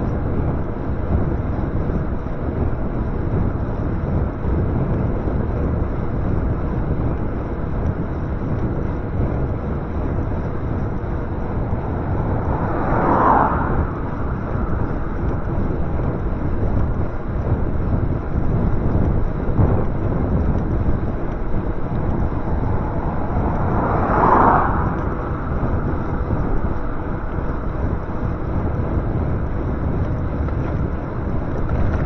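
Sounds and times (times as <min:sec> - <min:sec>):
road rush: 0:00.0 - 0:32.0
wind on microphone: 0:00.0 - 0:32.0.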